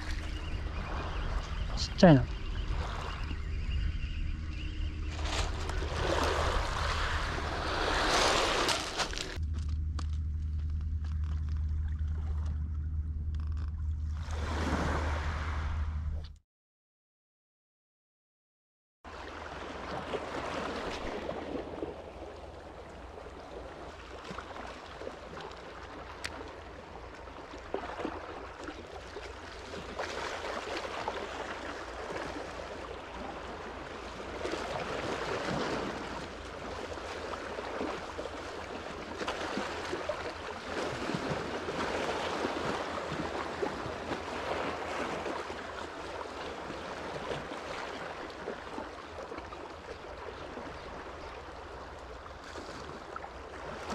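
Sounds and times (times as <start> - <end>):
small sea waves washing ashore: 0.0 - 9.4, 14.2 - 16.0, 19.1 - 53.9.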